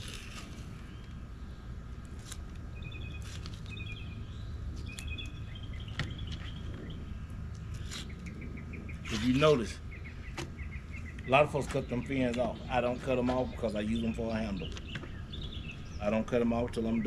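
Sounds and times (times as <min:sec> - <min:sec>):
low outdoor background noise: 0:00.0 - 0:17.0
small birds chirping: 0:00.0 - 0:17.0.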